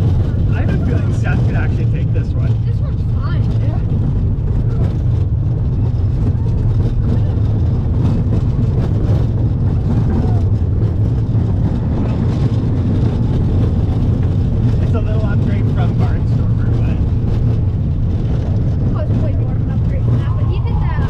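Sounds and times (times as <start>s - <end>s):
roller coaster train rumbling: 0.0s - 21.0s.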